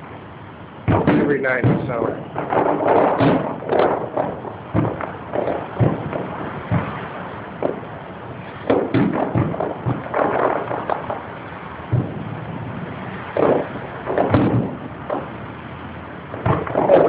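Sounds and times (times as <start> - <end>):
fireworks bangs: 0.8 - 17.0
fireworks crackling pops: 0.8 - 17.0.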